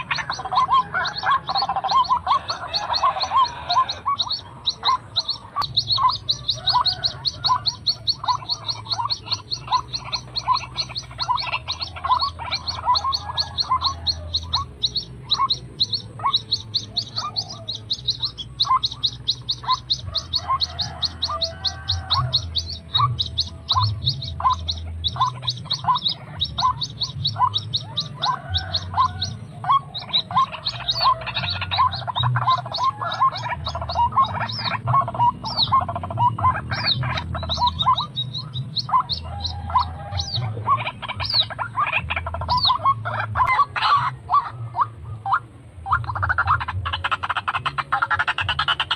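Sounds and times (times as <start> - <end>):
waterhen calling repeated notes: 0.0 - 48.9.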